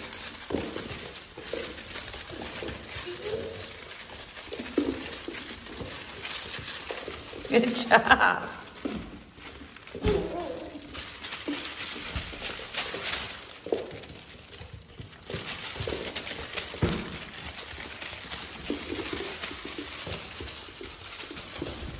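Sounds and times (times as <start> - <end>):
puppy paws skittering on wood floor: 0.0 - 21.9.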